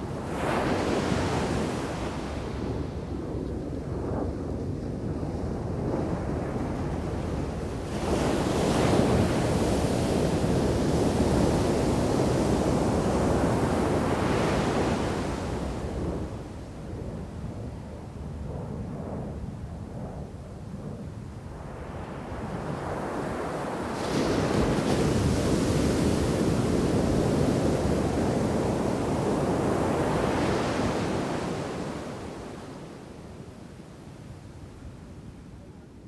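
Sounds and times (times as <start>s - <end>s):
wind buffeting microphone: 0.0s - 32.7s.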